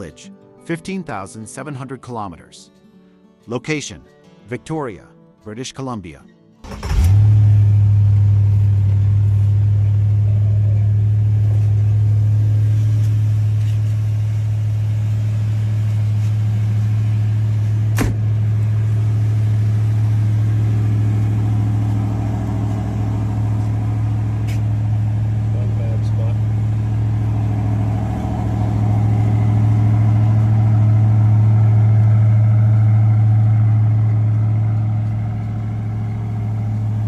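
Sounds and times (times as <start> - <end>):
car engine running steadily: 6.7 - 37.0.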